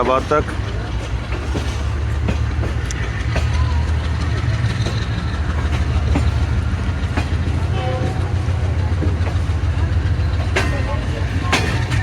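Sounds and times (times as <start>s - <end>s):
train rumble: 0.0s - 12.0s
wheels clicking on rails: 0.0s - 12.0s.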